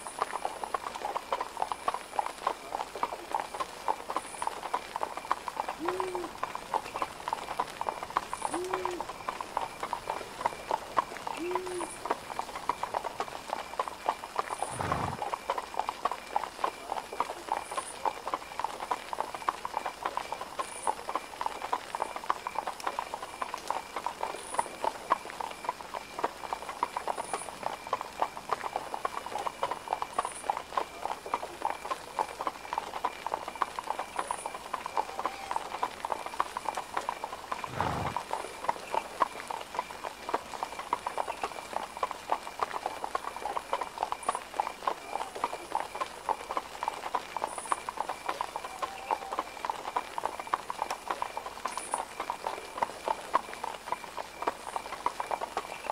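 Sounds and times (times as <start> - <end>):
horse hooves clip-clopping: 0.0 - 55.9.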